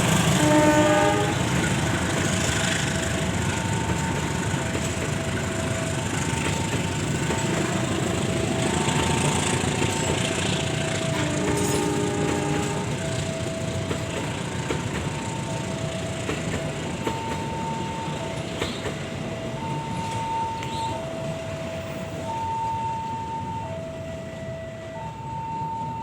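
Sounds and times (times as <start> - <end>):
passenger train rumbling past: 0.0 - 26.0
two-tone crossing alarm: 0.0 - 26.0.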